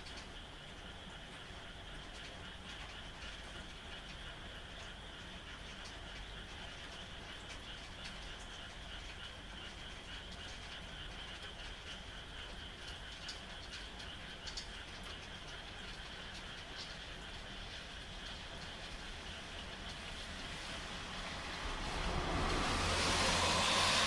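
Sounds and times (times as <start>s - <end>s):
frogs calling: 0.0s - 24.0s
rain falling: 0.0s - 24.0s.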